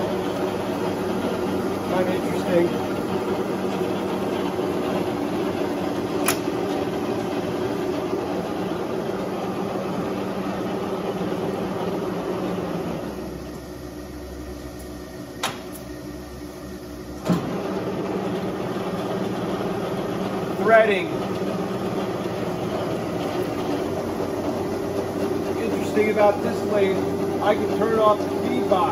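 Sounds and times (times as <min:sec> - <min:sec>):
lathe running hum: 0:00.0 - 0:28.9.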